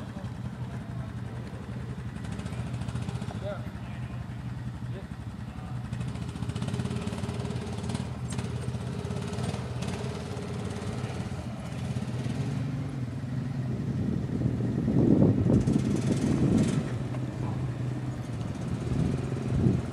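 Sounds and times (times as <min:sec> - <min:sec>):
atv engines droning: 0:00.0 - 0:19.9.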